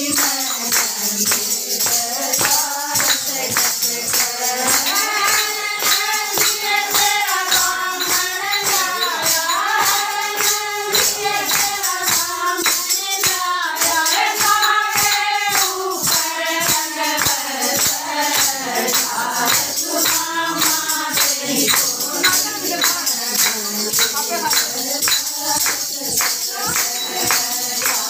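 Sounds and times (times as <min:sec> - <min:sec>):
hand claps: 0:00.0 - 0:28.0
sharp percussive strikes: 0:00.0 - 0:28.0
women singing: 0:00.0 - 0:28.0.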